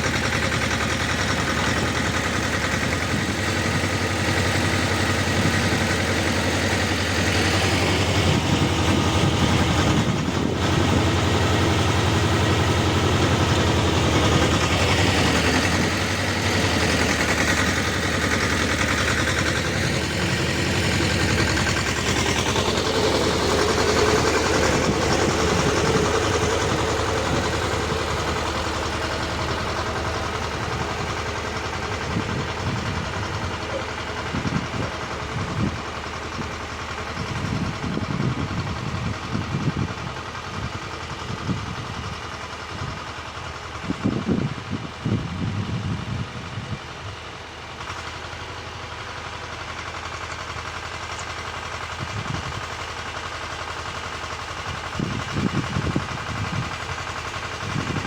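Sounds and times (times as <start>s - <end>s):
motor tiller engine running: 0.0s - 58.0s.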